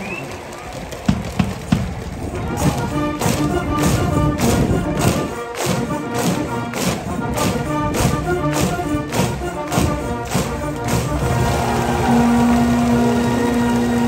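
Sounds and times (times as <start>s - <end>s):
steady drum beat: 1.1s - 14.0s
brass band playing: 2.2s - 14.0s.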